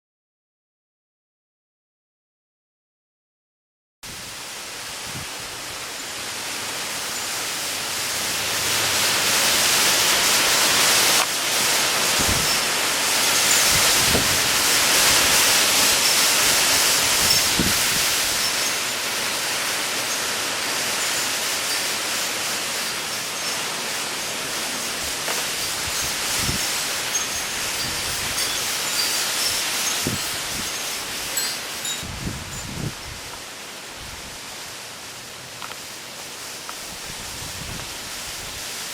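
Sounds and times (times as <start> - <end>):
wind and rain hissing: 4.0 - 38.9.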